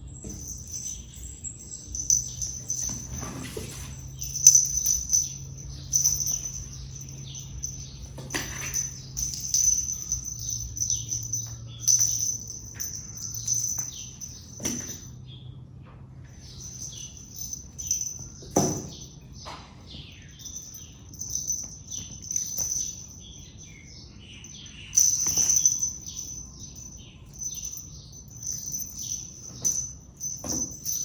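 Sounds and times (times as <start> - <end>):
small birds chirping: 0.0 - 15.6, 16.2 - 31.0
low steady hum: 0.0 - 31.0.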